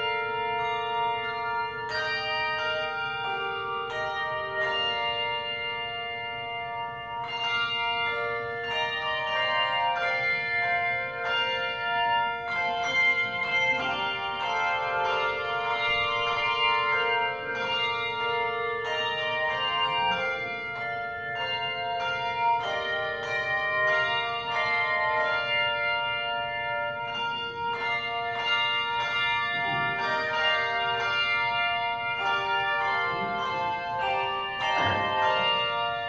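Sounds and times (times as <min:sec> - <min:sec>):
handbell choir playing: 0:00.0 - 0:36.0.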